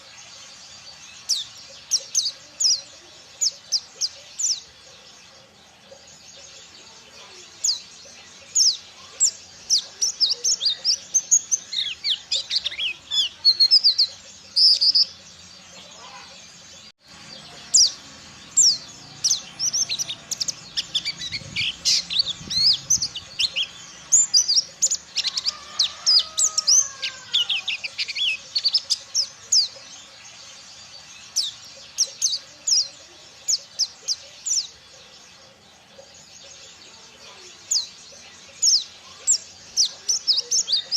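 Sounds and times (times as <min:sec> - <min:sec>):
white-eye singing chirps and trills: 0:00.0 - 0:40.9.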